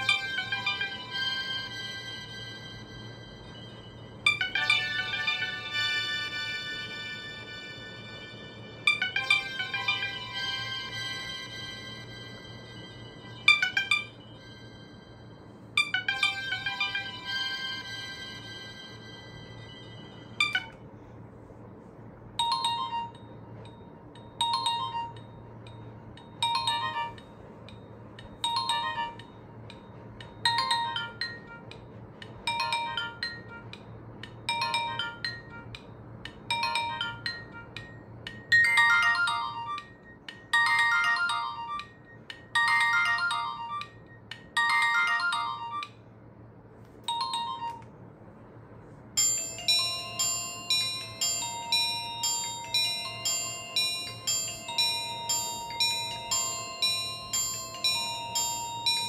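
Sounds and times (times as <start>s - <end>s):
phone ringtone beeping chime: 0.0s - 20.8s, 22.4s - 46.1s, 47.1s - 47.9s, 49.2s - 59.0s.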